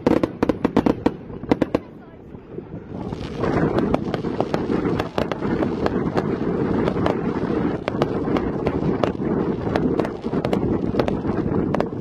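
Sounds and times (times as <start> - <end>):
firework cracks and pops: 0.0 - 12.0
firework fountains rushing: 0.0 - 12.0.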